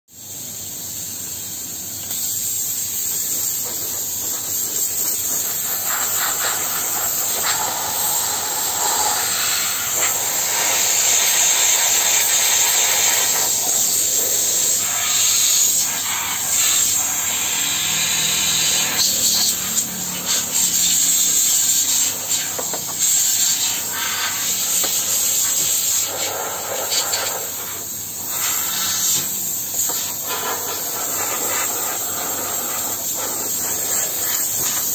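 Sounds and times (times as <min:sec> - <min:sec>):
steam jet hissing: 0:00.1 - 0:34.9.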